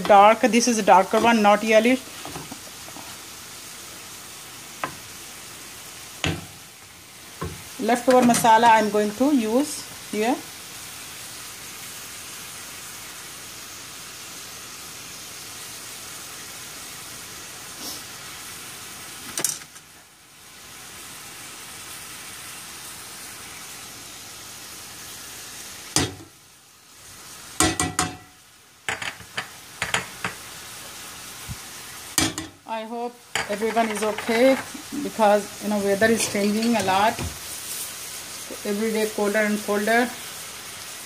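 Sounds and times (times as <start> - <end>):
chicken sizzling in a skillet: 0.0 - 41.0.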